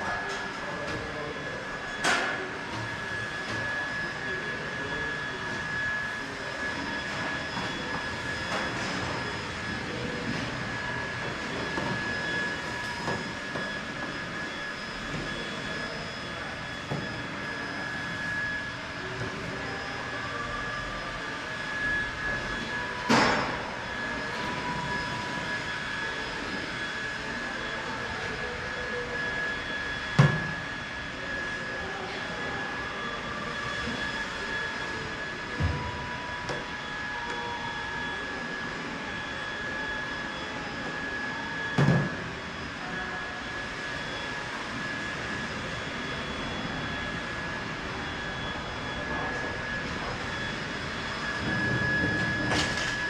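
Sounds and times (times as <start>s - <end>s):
truck engine high whine: 0.0s - 53.0s.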